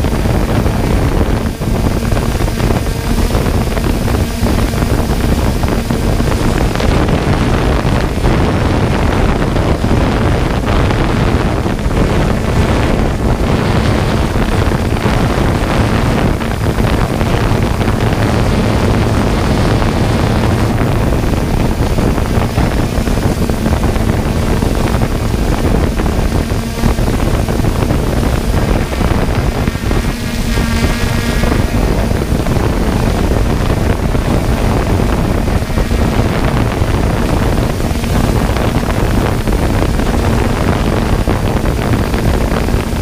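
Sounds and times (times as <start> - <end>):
drone propellers and motors: 0.0 - 43.0
wind buffeting microphone: 0.0 - 43.0.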